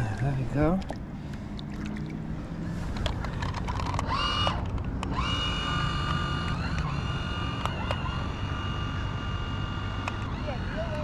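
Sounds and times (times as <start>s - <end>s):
electric boat motor whining: 2.1s - 11.0s.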